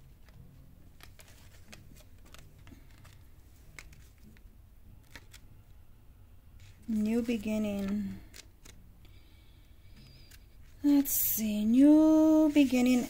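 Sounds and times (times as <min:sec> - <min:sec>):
cards and paper rustling: 0:00.0 - 0:05.7, 0:06.6 - 0:13.0
low room hum: 0:00.0 - 0:13.0.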